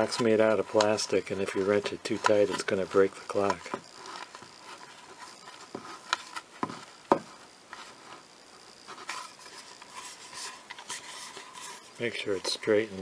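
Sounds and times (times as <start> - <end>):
handling noise: 0.0 - 13.0.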